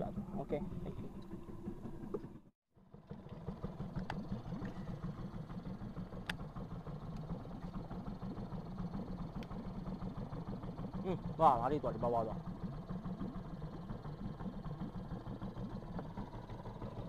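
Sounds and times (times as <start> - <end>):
boat engine running at low revs: 0.0 - 17.0.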